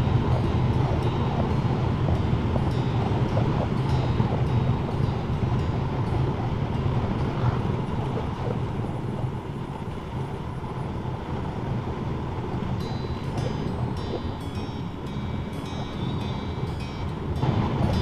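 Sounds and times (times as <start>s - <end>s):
motorcycle engine drone: 0.0s - 18.0s
wind rush on microphone: 0.0s - 18.0s.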